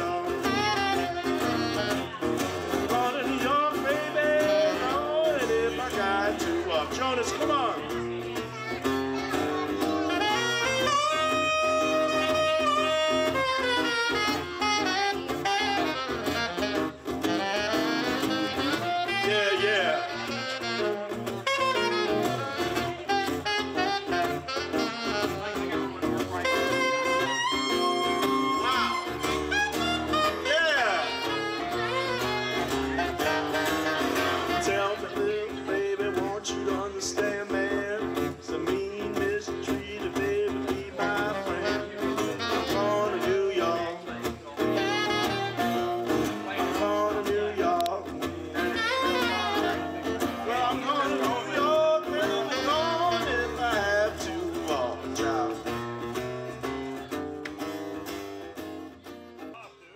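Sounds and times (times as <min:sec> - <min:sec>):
saxophone playing blues: 0:00.0 - 0:59.1
acoustic guitar: 0:00.0 - 0:59.9.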